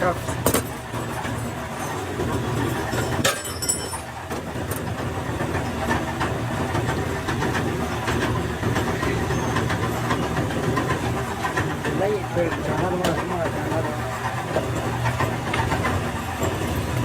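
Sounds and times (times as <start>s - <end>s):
factory machinery humming: 0.0s - 17.0s.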